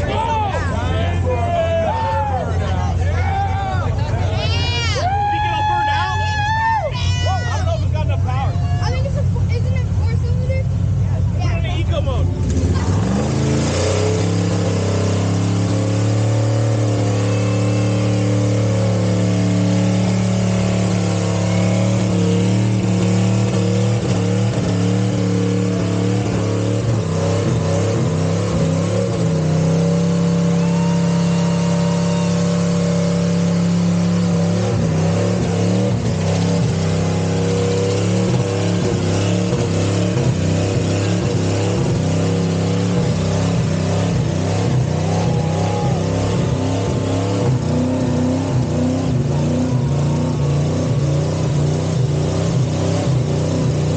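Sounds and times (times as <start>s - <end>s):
truck engine revving high: 0.0s - 53.9s.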